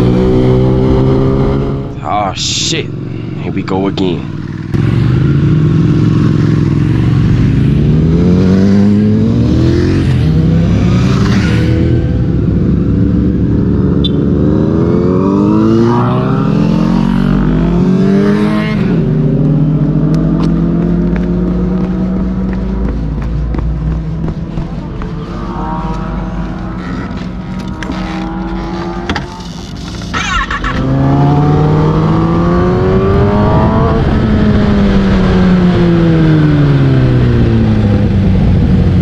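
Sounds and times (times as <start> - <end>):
motorcycle engine accelerating hard: 0.0 - 2.1, 2.9 - 39.0.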